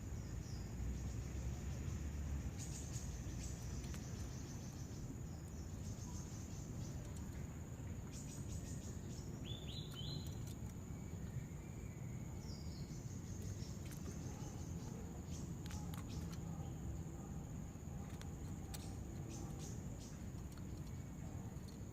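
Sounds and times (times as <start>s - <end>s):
low background rumble: 0.0s - 21.9s
bird chirps: 0.2s - 21.9s.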